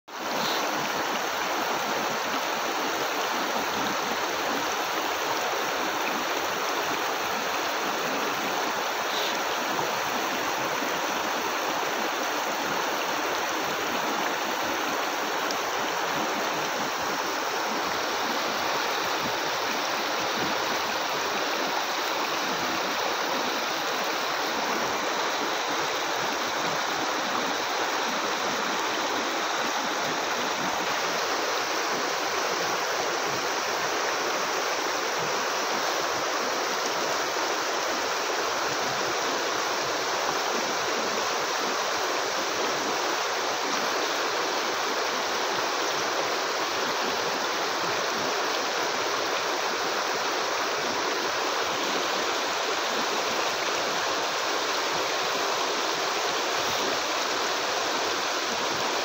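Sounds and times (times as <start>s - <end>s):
river rushing over rocks: 0.1s - 59.0s.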